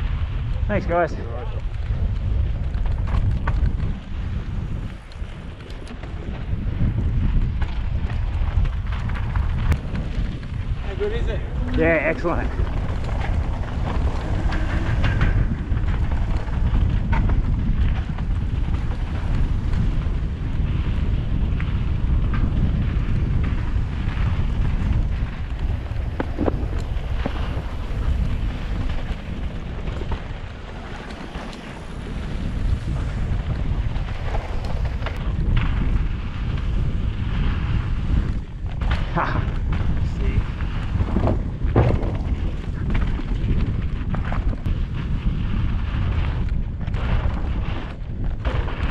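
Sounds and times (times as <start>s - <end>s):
bike clicks and rattles: 0.0s - 48.9s
bike tyres rolling rumble: 0.0s - 48.9s
wind buffeting microphone: 0.0s - 48.9s.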